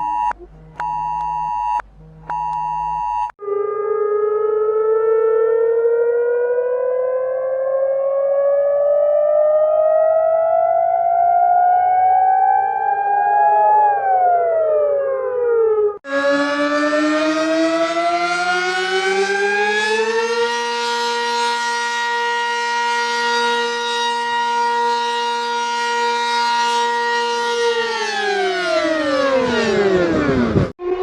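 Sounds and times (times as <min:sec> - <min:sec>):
reversed warning siren: 0:03.3 - 0:31.0.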